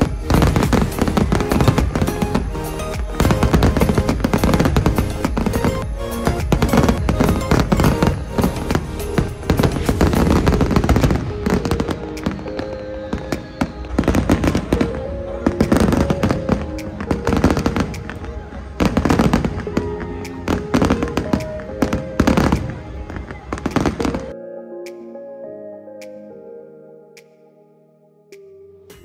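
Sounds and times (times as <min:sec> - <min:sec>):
fireworks bangs and crackle: 0:00.0 - 0:24.3
background music: 0:00.0 - 0:29.0.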